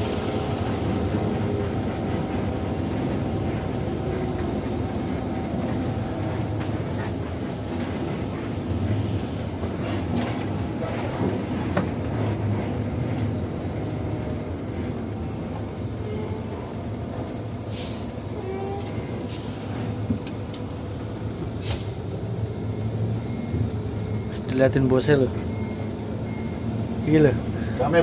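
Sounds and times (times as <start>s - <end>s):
bus engine and road rumble: 0.0s - 28.0s.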